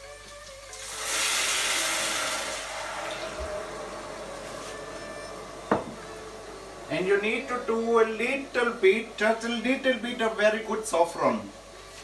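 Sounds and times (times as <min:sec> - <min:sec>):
water hissing in hot oil: 0:00.0 - 0:12.0.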